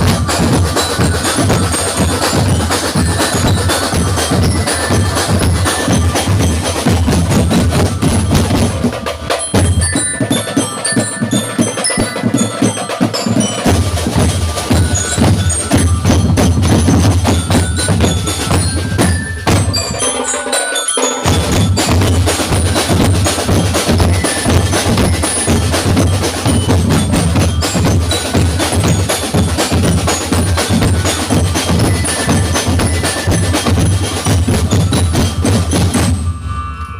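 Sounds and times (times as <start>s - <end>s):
driving drum beat: 0.0s - 36.4s
bell-like melodic tones: 0.0s - 36.9s
instrumental band music: 0.0s - 36.9s.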